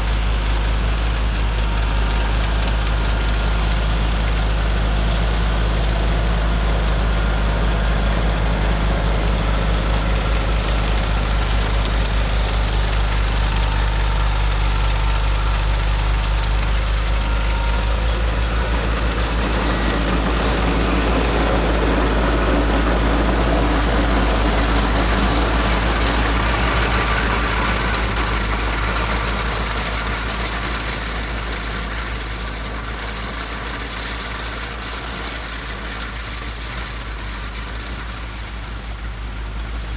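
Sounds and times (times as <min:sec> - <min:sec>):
tractor engine rumbling: 0:00.0 - 0:39.9.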